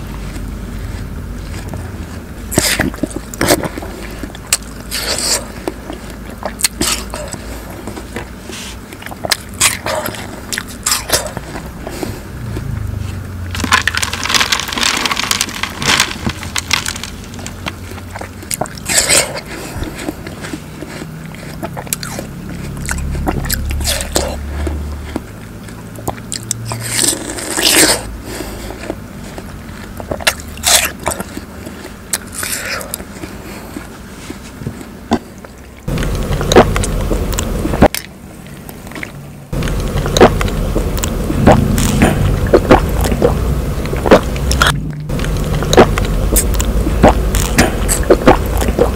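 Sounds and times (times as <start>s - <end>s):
crunchy bites into watermelon: 0.0s - 25.4s, 26.0s - 28.1s, 28.8s - 38.2s, 38.9s - 48.9s
wet chewing: 0.0s - 48.9s.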